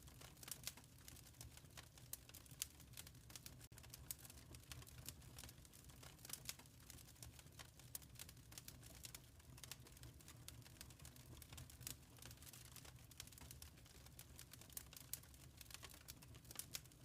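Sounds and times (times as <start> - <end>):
faint wood fire crackling: 0.0 - 17.0.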